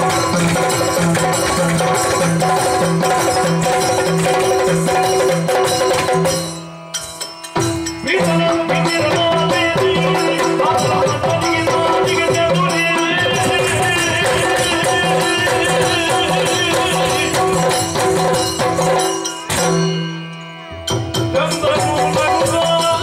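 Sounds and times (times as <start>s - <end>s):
drums playing quick rhythm: 0.0s - 19.9s, 20.8s - 23.0s.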